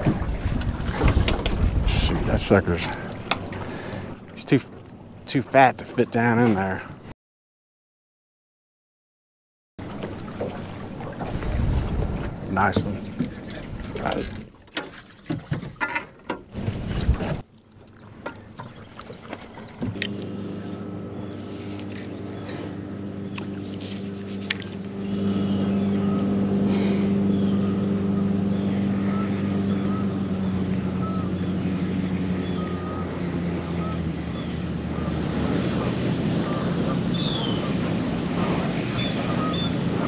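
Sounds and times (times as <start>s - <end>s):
boat motor humming: 0.0s - 7.1s, 9.8s - 40.0s.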